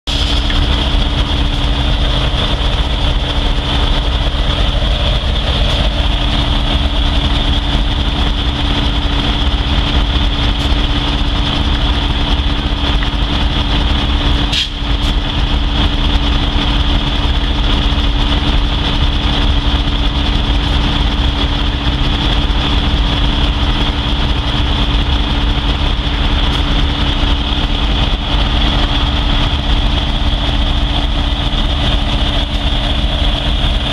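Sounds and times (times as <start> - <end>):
diesel locomotive idling: 0.0 - 33.9
high-pitched whine: 0.1 - 33.9.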